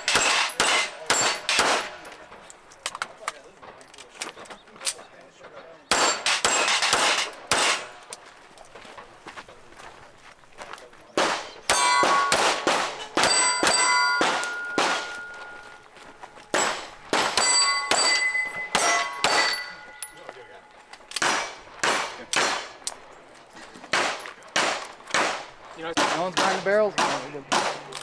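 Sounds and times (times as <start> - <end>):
pistol shots: 0.0 - 9.2, 11.1 - 28.0
steel targets clanging: 0.0 - 28.0.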